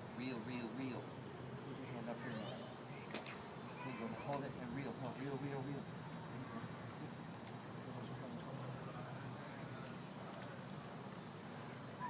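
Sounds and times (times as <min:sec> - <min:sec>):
crickets trilling: 0:00.0 - 0:12.0
faint low outdoor hum: 0:00.0 - 0:12.0.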